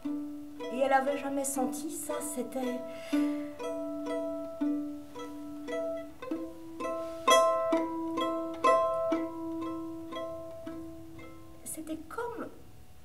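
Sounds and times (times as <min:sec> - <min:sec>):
violin plucked pizzicato: 0:00.0 - 0:11.8.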